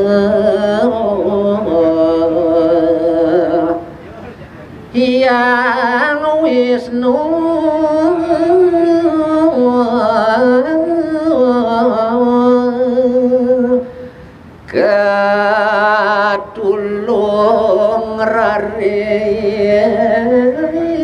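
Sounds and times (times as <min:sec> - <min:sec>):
lower male voice singing with vibrato: 0:00.0 - 0:04.2, 0:04.8 - 0:21.0
man singing drawn-out notes: 0:00.0 - 0:13.9, 0:14.7 - 0:21.0.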